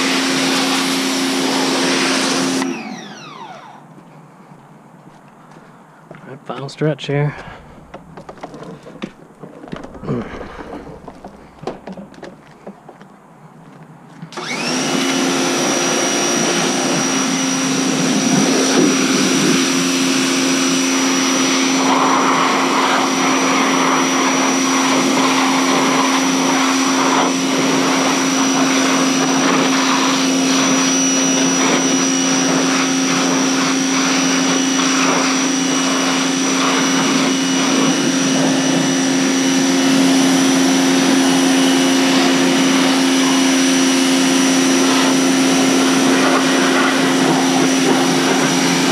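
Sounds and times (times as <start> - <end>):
pressure washer pump whining: 0.0 - 4.1, 7.3 - 12.7, 14.3 - 48.9.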